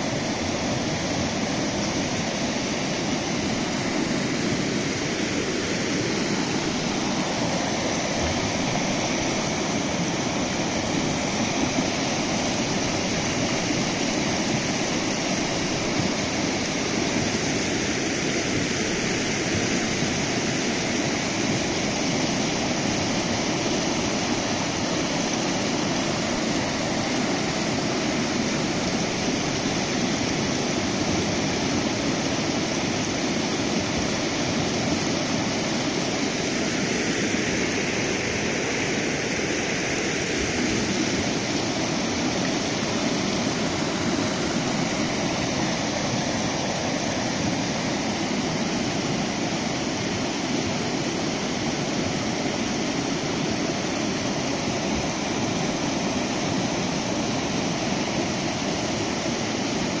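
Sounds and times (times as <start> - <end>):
floodwater rushing: 0.0 - 60.0.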